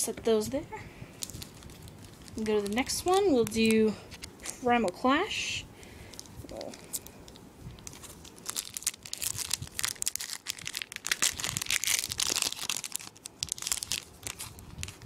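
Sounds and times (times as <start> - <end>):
foil wrapper crinkling: 1.1 - 5.1, 6.0 - 15.0.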